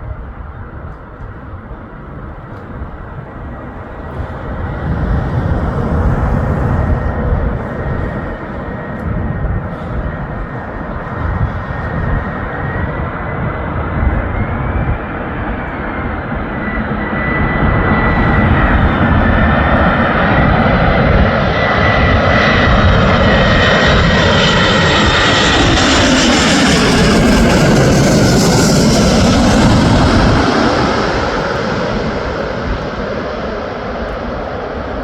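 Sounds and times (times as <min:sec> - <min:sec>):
jet engines rumbling and whining: 0:00.0 - 0:35.0.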